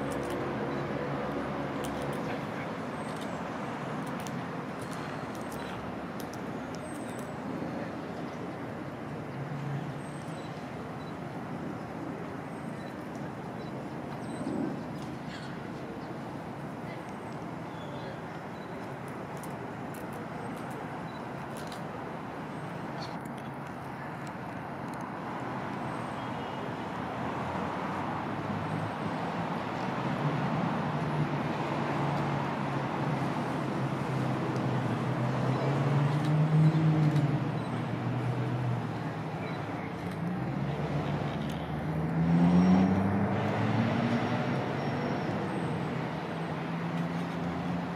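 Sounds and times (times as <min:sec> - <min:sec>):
distant traffic rumble: 0:00.0 - 0:47.9.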